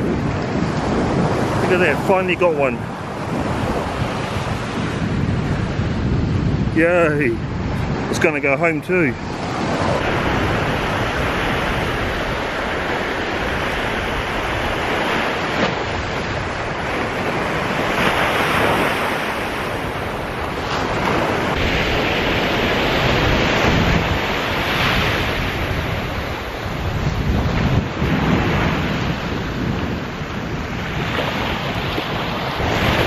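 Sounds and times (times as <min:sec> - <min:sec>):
surf breaking on beach: 0:00.0 - 0:33.0
wind buffeting microphone: 0:00.0 - 0:33.0.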